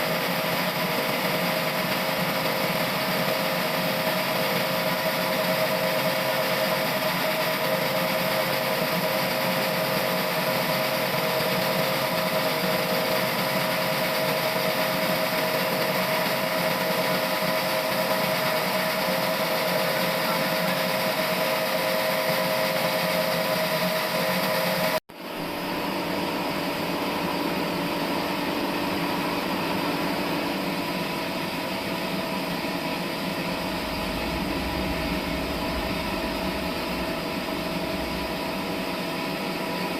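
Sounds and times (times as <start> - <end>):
sawmill machine whine: 0.0 - 25.0, 25.6 - 39.9.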